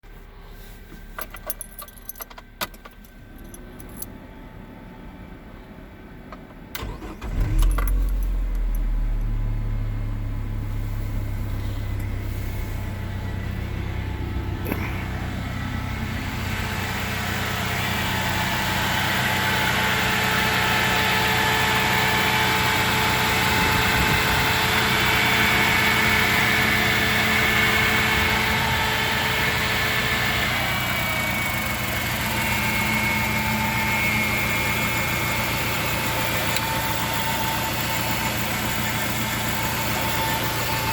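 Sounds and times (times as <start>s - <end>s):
van engine cranking and idling: 0.0s - 40.9s.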